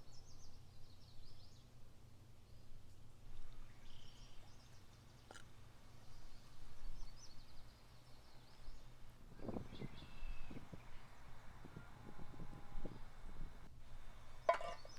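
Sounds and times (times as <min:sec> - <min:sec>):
small birds singing: 0:00.0 - 0:01.8, 0:02.4 - 0:14.9.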